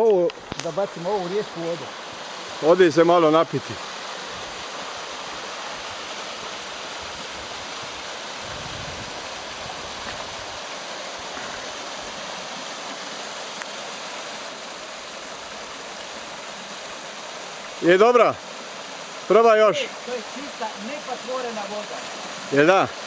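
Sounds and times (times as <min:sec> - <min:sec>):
waterfall pouring into pool: 0:00.0 - 0:23.0.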